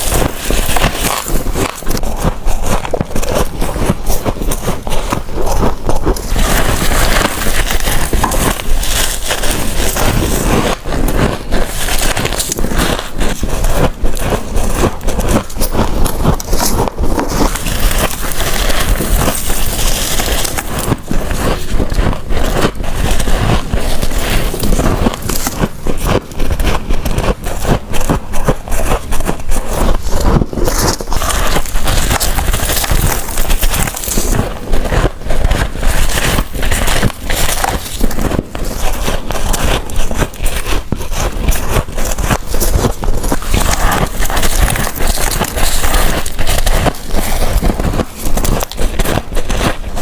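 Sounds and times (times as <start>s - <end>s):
crunching ice crystals: 0.0s - 28.2s, 28.8s - 50.0s.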